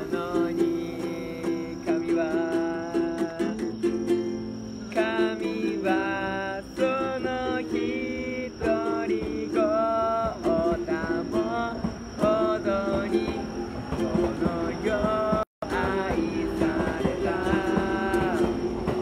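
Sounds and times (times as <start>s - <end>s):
person singing: 0.0s - 19.0s
strummed acoustic guitar: 0.0s - 19.0s.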